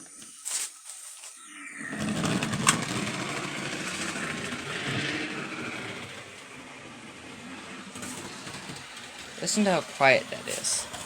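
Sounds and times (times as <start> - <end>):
model train running on track: 1.4 - 11.0.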